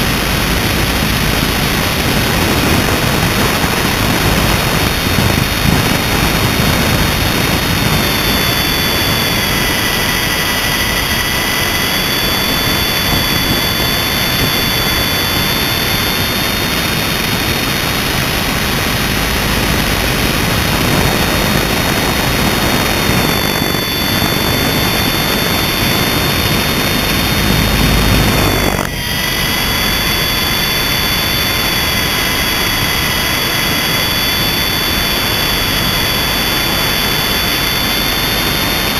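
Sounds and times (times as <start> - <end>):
loud rushing noise: 0.0 - 36.9
rc helicopter motor whine: 0.0 - 38.9.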